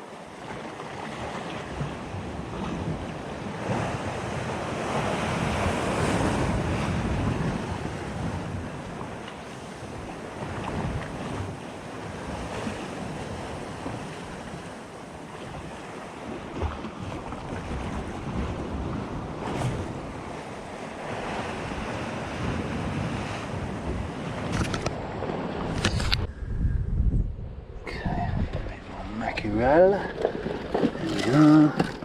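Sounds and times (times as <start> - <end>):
surf washing against rocks: 0.0 - 26.3, 27.9 - 32.0
wind buffeting microphone: 1.5 - 32.0.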